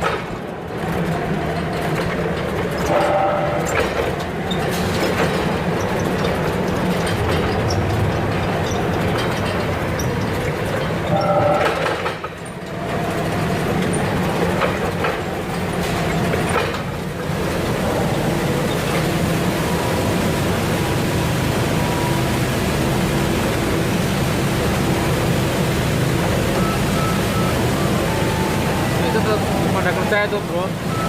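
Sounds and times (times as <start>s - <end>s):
heavy machinery running: 0.0s - 31.0s.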